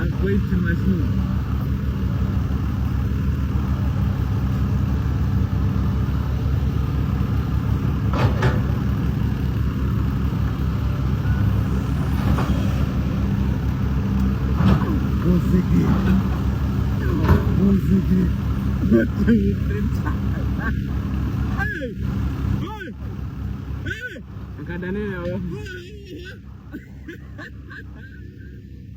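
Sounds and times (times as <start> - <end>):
excavator diesel engine rumbling: 0.0 - 28.9.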